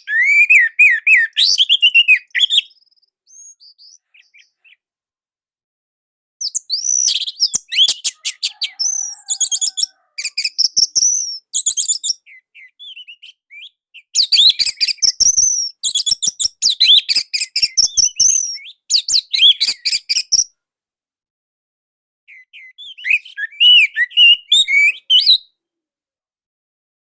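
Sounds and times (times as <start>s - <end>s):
quieter bird calls: 0.0s - 4.8s, 6.4s - 20.5s, 22.3s - 25.4s
thrush singing rapid chirping song: 0.0s - 4.9s, 6.4s - 20.5s, 22.3s - 25.5s.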